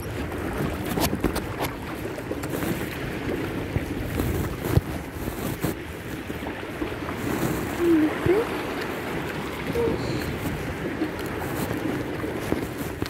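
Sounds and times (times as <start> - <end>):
waves washing against rocks: 0.0 - 13.0
wind buffeting microphone: 0.0 - 13.0.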